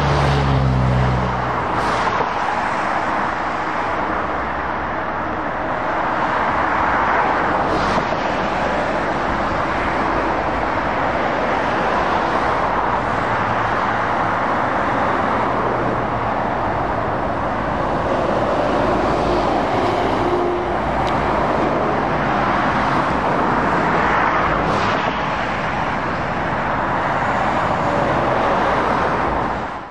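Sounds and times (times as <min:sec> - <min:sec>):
diesel engines running: 0:00.0 - 0:29.8
tyre noise on road: 0:00.0 - 0:29.9.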